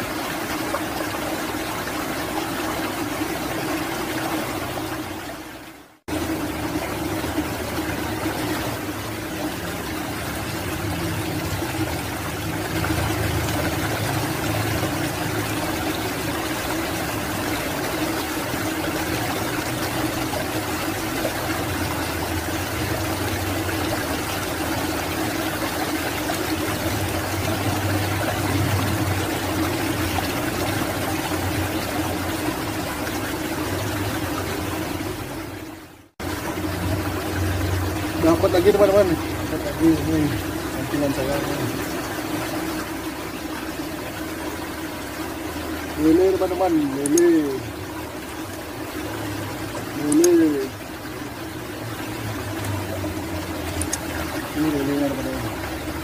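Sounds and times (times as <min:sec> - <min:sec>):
rushing flowing water: 0:00.0 - 0:56.0.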